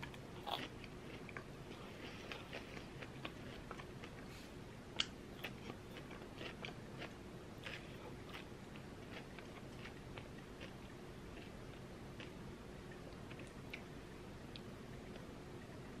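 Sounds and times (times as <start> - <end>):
chewing pastry: 0.0 - 13.9.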